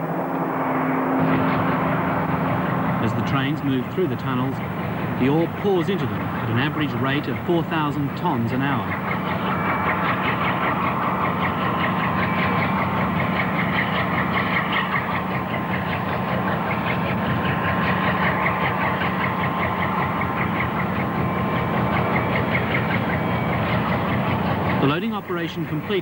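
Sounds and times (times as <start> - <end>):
faint high whine: 0.0 - 26.0
train engine rumble: 0.0 - 26.0.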